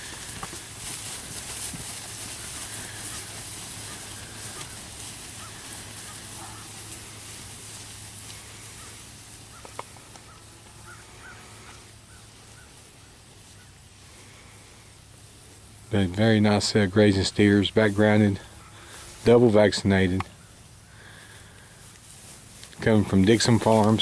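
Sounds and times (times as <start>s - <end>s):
steady low hum and hiss: 0.0s - 24.0s.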